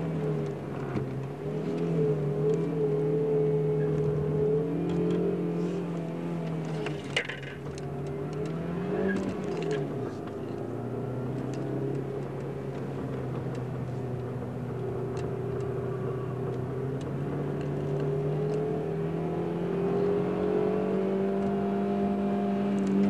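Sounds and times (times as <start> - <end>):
car engine from inside cabin: 0.0 - 23.0.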